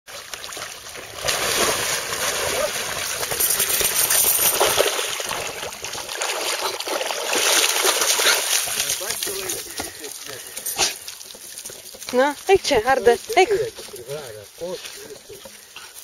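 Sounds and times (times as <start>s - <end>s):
dog splashing through water: 0.1s - 13.9s.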